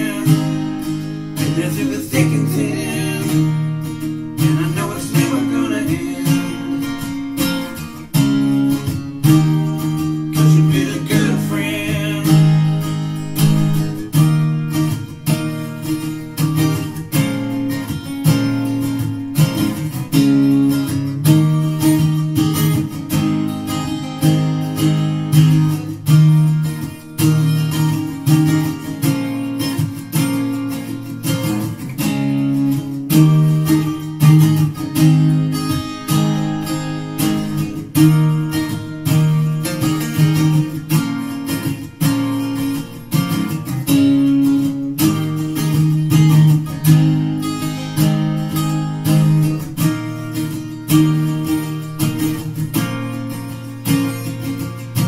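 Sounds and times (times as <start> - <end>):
acoustic guitar music over speakers: 0.0 - 55.0.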